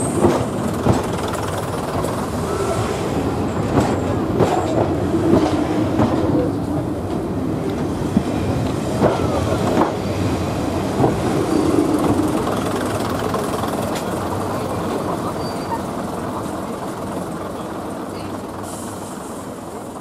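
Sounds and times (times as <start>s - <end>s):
rumble of train wheels: 0.0s - 20.0s.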